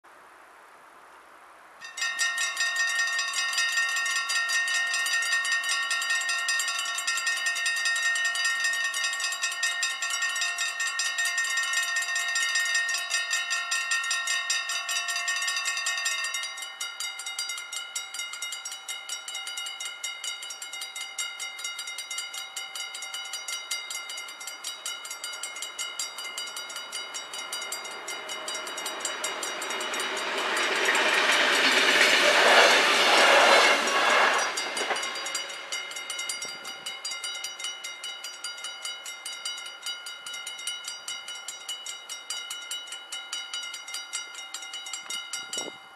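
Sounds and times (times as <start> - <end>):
approaching electric train: 1.8 - 45.9
level-crossing warning bells: 1.8 - 45.9.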